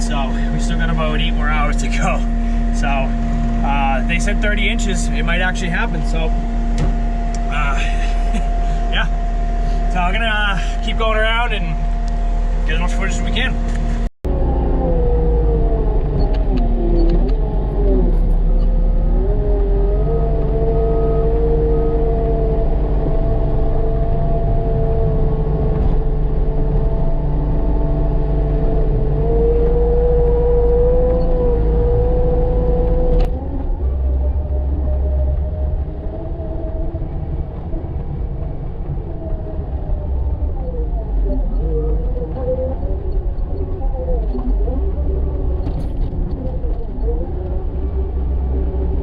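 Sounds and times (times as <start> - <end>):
diesel engine running under load: 0.0 - 49.0
engine whine: 0.0 - 49.0.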